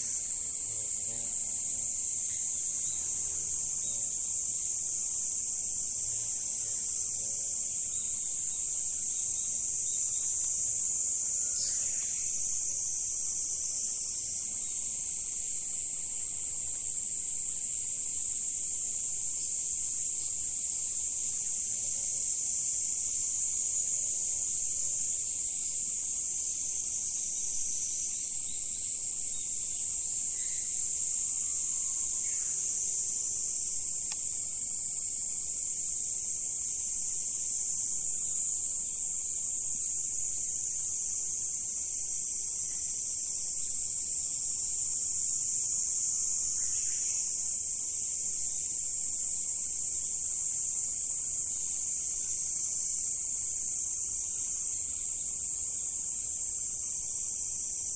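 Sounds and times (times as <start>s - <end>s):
insects chorus: 0.0s - 57.9s.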